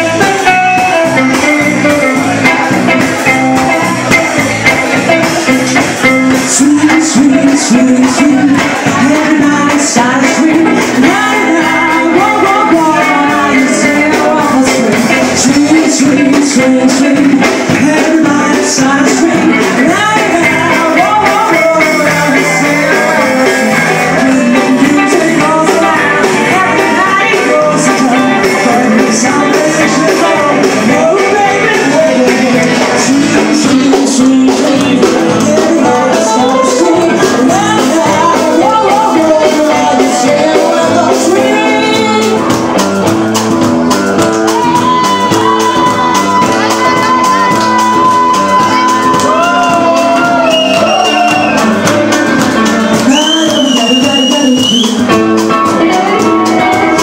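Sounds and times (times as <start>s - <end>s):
person singing: 0.0s - 42.9s, 44.2s - 57.0s
drums: 0.0s - 57.0s
electric guitar: 0.0s - 57.0s.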